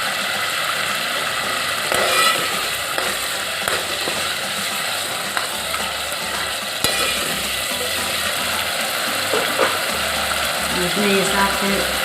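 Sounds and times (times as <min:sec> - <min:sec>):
peas sizzling in oil: 0:00.0 - 0:12.0.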